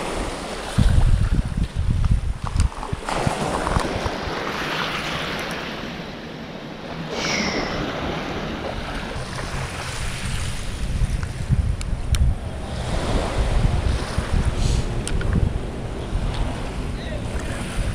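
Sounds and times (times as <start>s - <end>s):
small waves washing on shore: 0.0s - 11.6s, 12.5s - 17.9s
wind: 0.0s - 17.9s.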